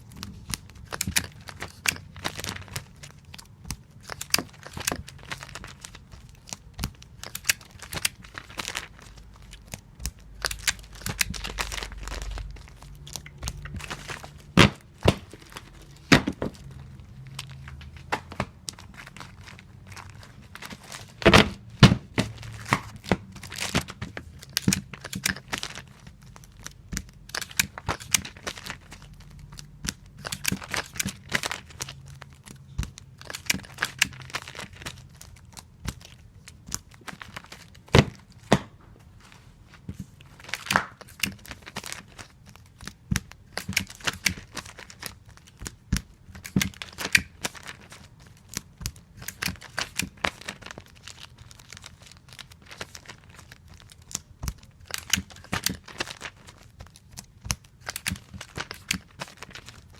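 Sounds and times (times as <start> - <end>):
crinkling and handling noises: 0.0 - 59.9.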